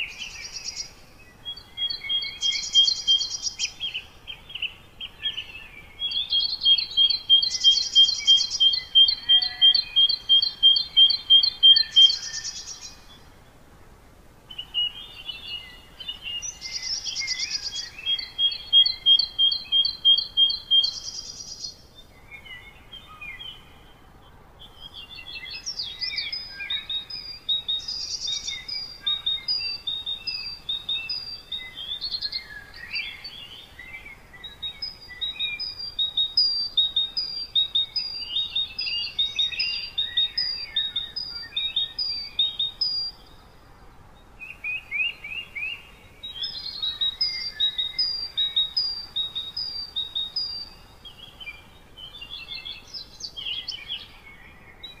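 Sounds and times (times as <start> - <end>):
faint background hiss: 0.0 - 55.0
songbirds chirping and trilling: 0.0 - 55.0.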